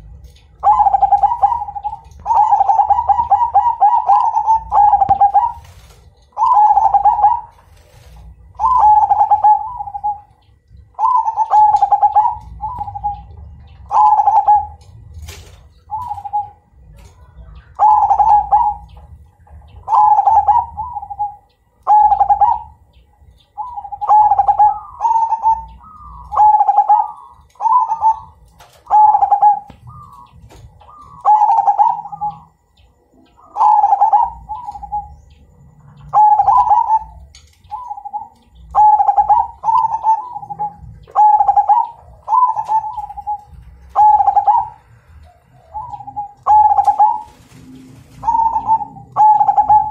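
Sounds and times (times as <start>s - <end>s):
dove cooing: 0.0s - 49.9s
higher dove cooing: 0.0s - 49.9s.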